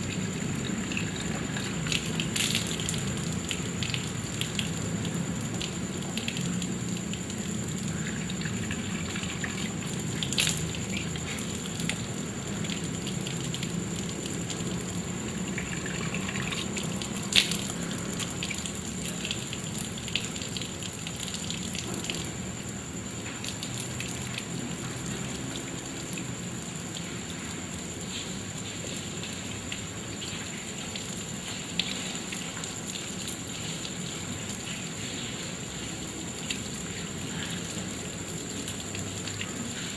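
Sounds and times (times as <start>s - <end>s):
tap water splashing on ground: 0.0s - 22.4s, 23.1s - 39.9s.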